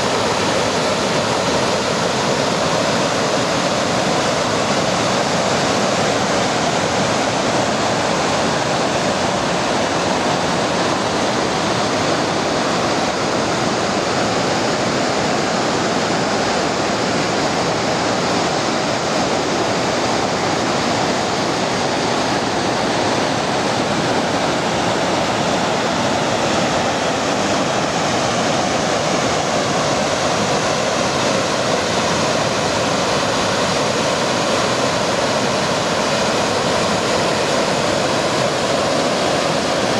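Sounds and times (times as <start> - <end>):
waterfall and rapids roaring: 0.0 - 39.9.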